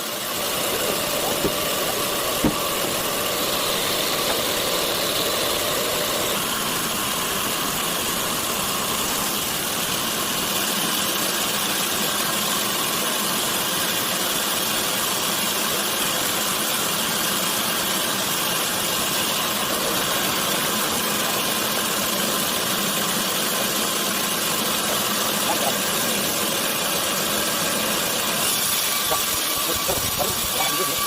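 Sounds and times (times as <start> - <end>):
sawmill machinery drone: 0.0 - 31.0.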